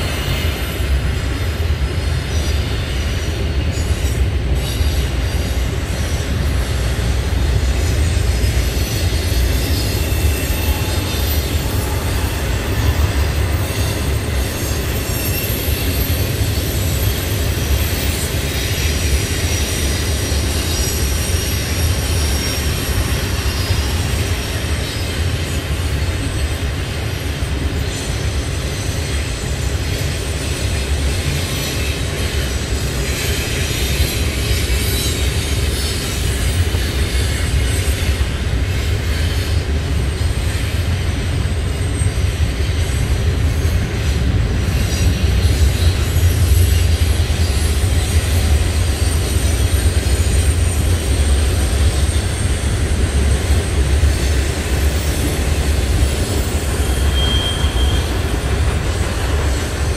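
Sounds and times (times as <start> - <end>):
freight train rumbling past: 0.0 - 59.9
high wheel squeal: 2.2 - 59.9.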